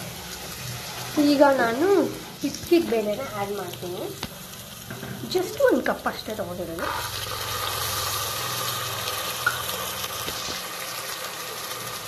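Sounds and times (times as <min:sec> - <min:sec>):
beans and onions sizzling in oil: 0:00.0 - 0:12.0.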